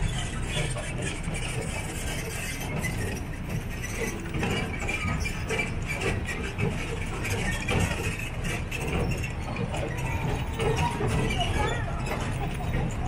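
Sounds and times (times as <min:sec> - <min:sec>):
carriages rattling and clinking: 0:00.0 - 0:13.0
train rumbling: 0:00.0 - 0:13.0.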